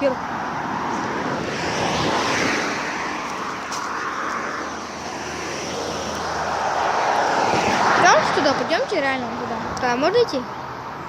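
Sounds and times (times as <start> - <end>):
aircraft passing overhead: 0.6 - 9.7.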